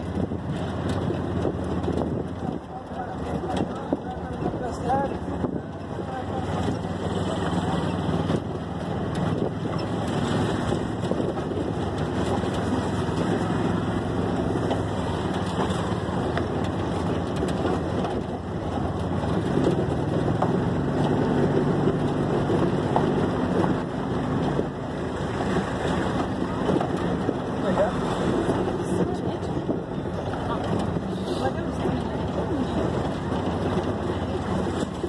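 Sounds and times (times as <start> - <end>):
small vehicle engine running: 0.0 - 35.0
tires on gravel road: 0.0 - 35.0
wind noise on microphone: 0.0 - 35.0.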